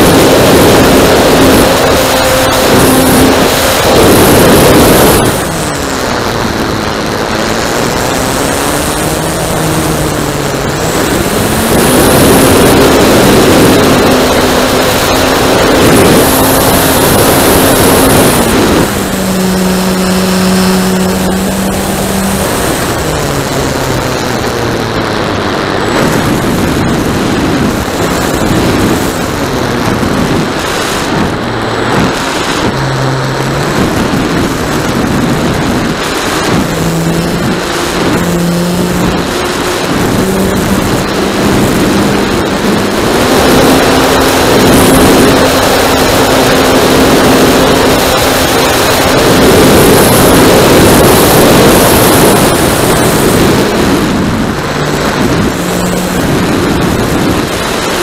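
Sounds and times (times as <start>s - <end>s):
model plane motor and propeller: 0.0s - 58.0s
wind noise on microphone: 0.0s - 58.0s.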